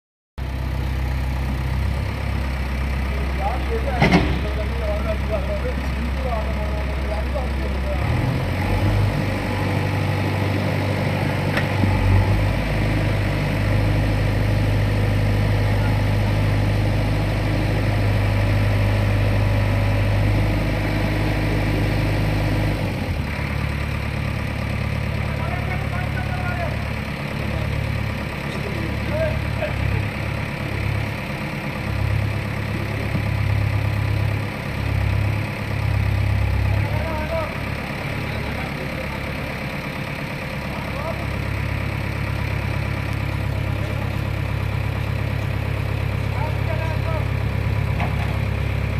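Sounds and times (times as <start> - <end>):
diesel engine running: 0.4 - 48.9.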